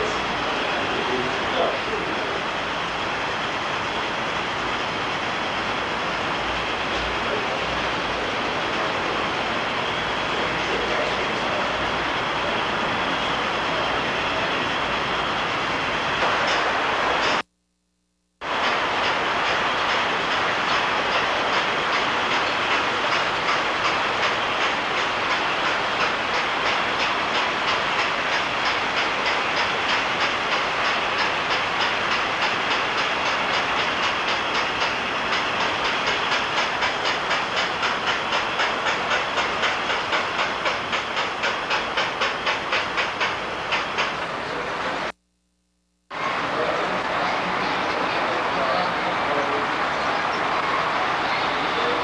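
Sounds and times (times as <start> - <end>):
steam locomotive hissing and chuffing: 0.0 - 17.4, 18.4 - 45.2, 46.1 - 52.0.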